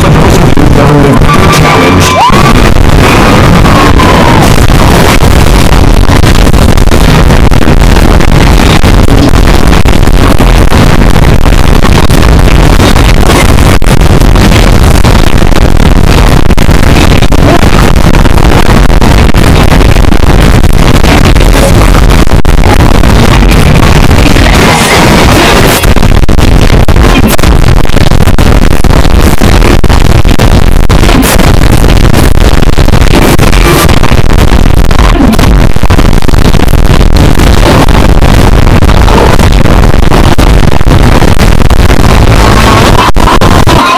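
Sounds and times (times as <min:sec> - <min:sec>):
distorted music over loudspeakers: 0:00.0 - 0:43.9.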